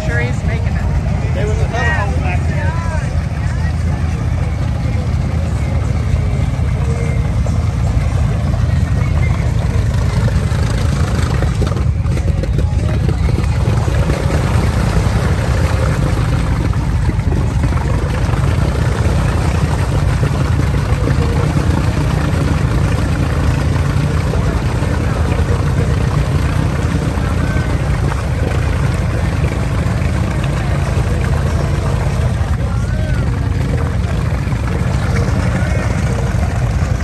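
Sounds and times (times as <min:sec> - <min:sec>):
off-road vehicle engine running: 0:00.0 - 0:37.0.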